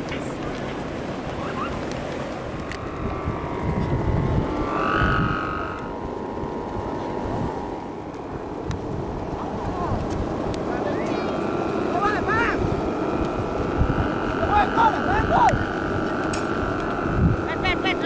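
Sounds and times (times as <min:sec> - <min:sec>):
wind buffeting microphone: 0:00.0 - 0:18.0
held pitched tone: 0:02.7 - 0:18.0.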